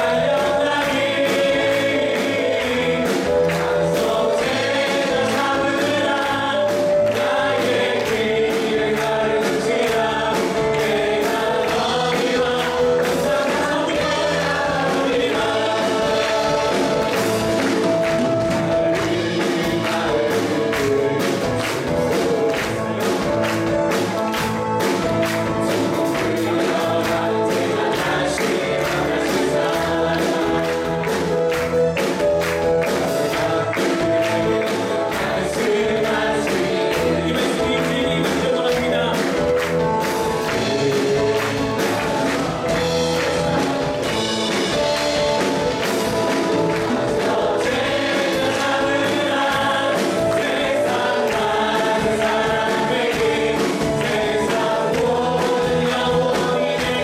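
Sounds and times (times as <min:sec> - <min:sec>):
group singing praise song: 0:00.0 - 0:57.0
instrumental accompaniment with beat: 0:00.0 - 0:57.0.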